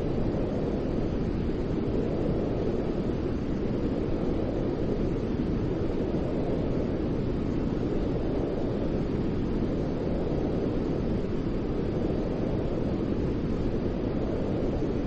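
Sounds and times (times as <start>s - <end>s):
deep muffled steady noise: 0.0s - 15.0s.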